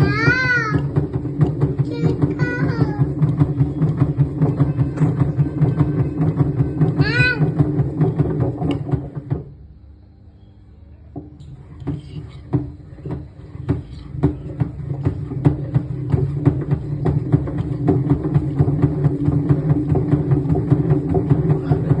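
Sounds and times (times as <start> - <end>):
repeated knocking from drum: 0.0 - 9.5, 11.1 - 22.0
washing machine drum spinning up: 0.0 - 9.8, 11.0 - 22.0
motor hum: 0.0 - 22.0.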